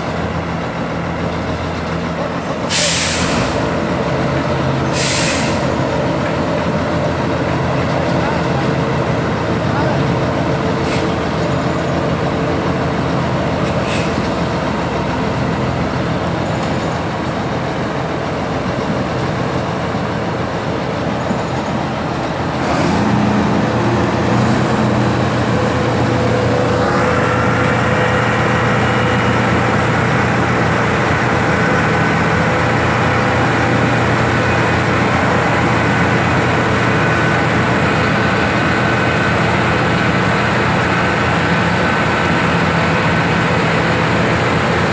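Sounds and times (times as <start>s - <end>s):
heavy diesel engines under load: 0.0s - 44.9s.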